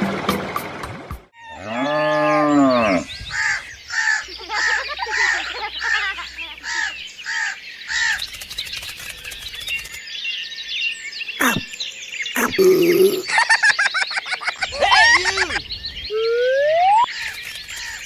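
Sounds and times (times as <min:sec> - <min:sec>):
birds chirping and calling: 0:01.4 - 0:18.0.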